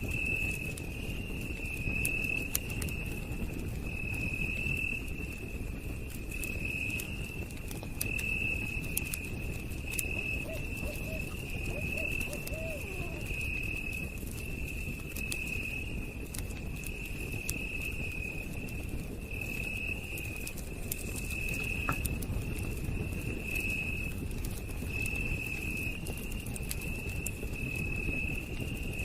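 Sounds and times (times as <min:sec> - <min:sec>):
campfire crackling and popping: 0:00.0 - 0:29.0
night insects trilling: 0:00.0 - 0:29.0.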